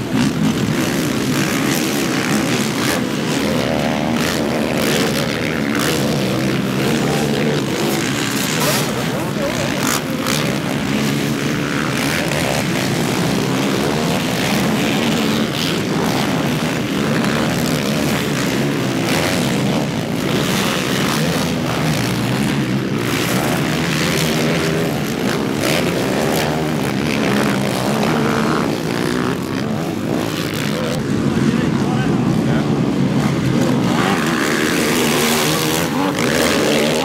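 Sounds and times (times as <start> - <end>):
quad bike engines revving: 0.0 - 37.0.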